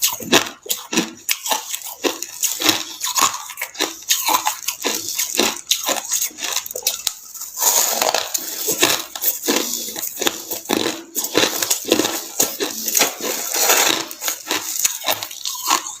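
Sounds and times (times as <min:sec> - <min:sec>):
chewing crunchy ice: 0:00.0 - 0:16.0.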